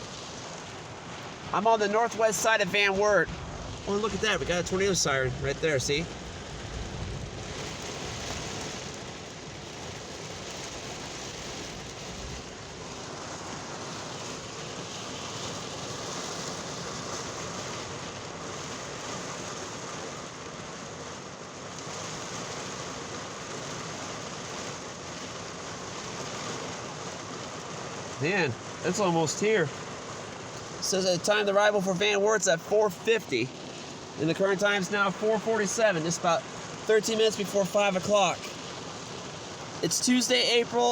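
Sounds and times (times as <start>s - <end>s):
steady rain: 0.0s - 40.9s
wind: 0.0s - 40.9s.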